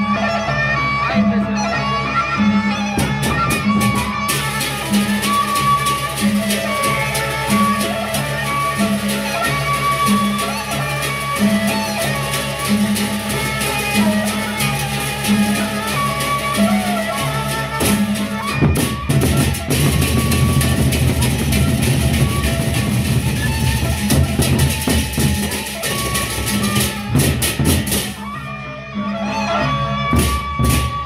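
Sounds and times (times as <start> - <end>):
barrel drums beaten with sticks: 3.0 - 28.3, 30.1 - 31.0.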